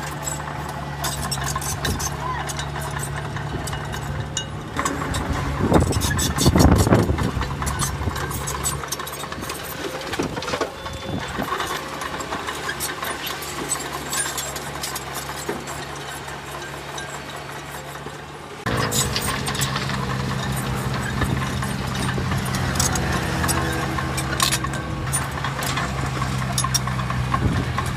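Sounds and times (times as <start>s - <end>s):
heavy diesel engine running: 0.0s - 27.9s
short knocks and clanks: 0.0s - 27.9s.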